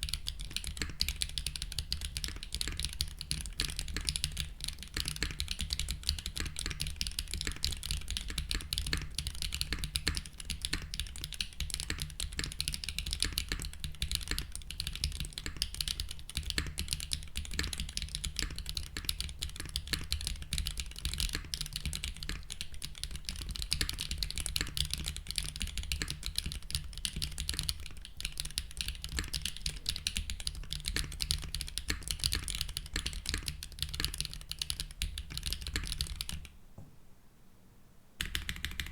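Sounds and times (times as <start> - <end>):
mechanical keyboard typing: 0.0 - 36.5, 38.2 - 38.9.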